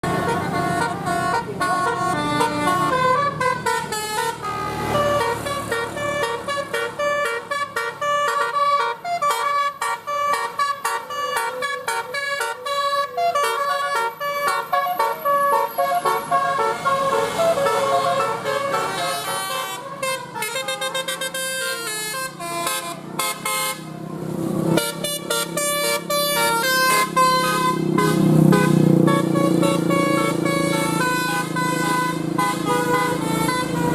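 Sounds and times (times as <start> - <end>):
multi-trumpet air horn melody: 0.0 - 24.0, 24.7 - 33.9.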